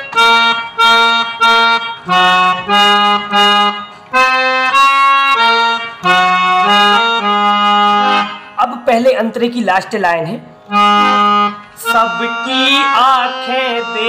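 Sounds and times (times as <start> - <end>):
harmonium melody: 0.0 - 14.0.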